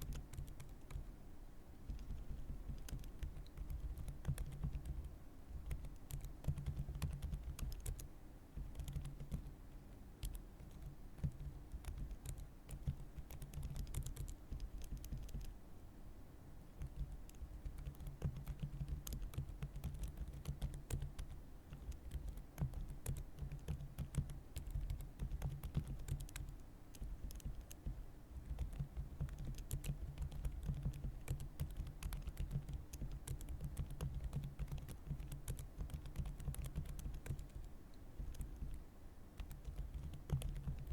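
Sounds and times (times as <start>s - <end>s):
typing on keyboard: 0.0s - 1.1s, 1.9s - 15.6s, 16.8s - 38.8s, 39.4s - 40.9s.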